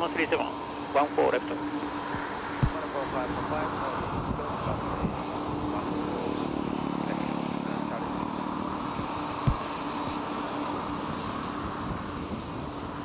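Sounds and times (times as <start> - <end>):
jet engines rushing and droning: 0.0 - 13.0.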